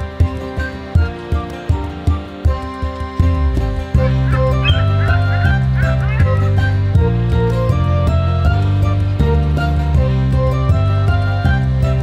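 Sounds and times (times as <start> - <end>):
instrumental cartoon music: 0.0 - 12.0.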